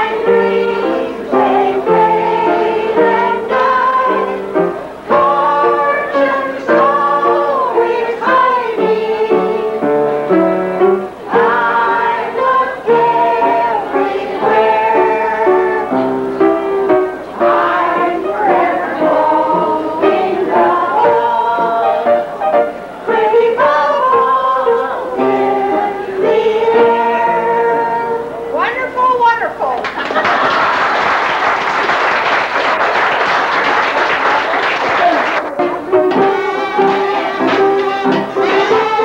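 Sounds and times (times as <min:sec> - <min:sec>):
kitchen band playing a tune: 0:00.0 - 0:31.7, 0:32.4 - 0:39.0.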